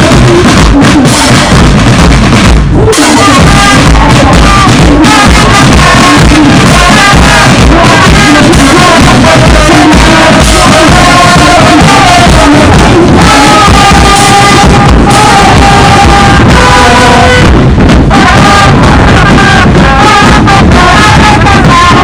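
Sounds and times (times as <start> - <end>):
bass and snare drums: 0.0 - 22.0
trumpets playing tune: 0.0 - 22.0.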